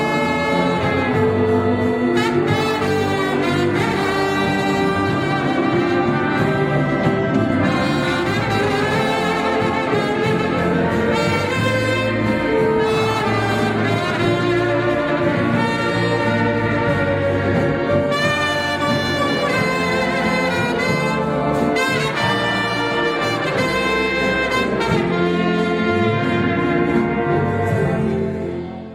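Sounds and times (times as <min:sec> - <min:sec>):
brass instruments holding notes: 0:00.0 - 0:28.9.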